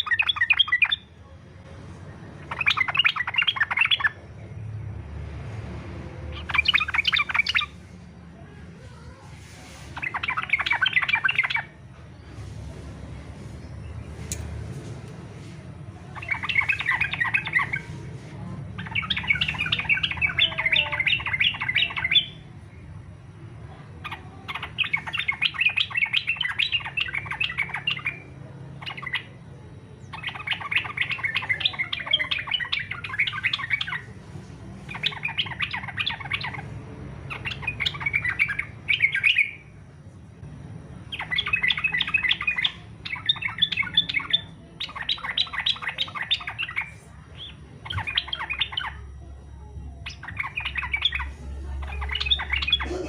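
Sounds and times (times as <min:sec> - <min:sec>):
bulbul chattering song: 0:00.0 - 0:01.2, 0:02.0 - 0:05.1, 0:05.9 - 0:14.6, 0:15.2 - 0:53.0.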